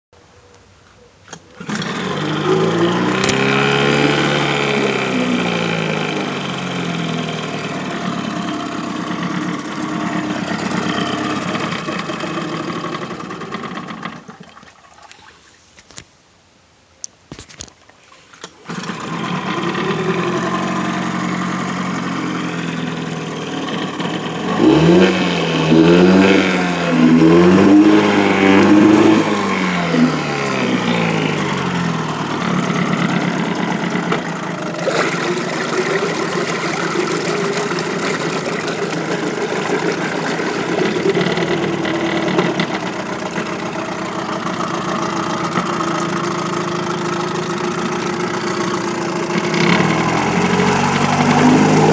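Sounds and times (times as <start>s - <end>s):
outboard motor running: 1.3s - 15.4s, 18.3s - 51.9s.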